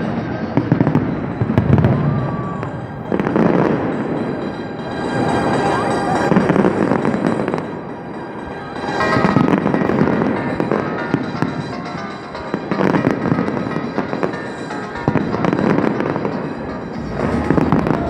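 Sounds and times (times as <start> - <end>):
fireworks bangs and crackles: 0.0 - 18.0
music soundtrack: 0.0 - 18.0.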